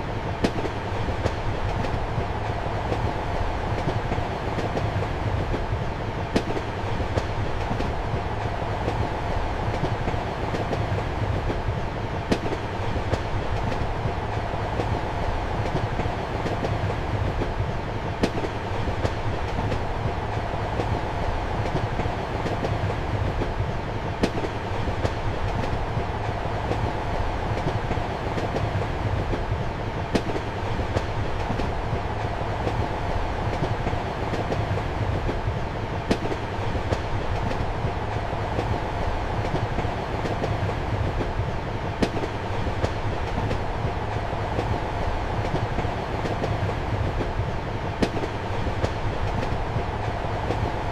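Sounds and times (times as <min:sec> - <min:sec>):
train wheels rumbling: 0:00.0 - 0:50.9.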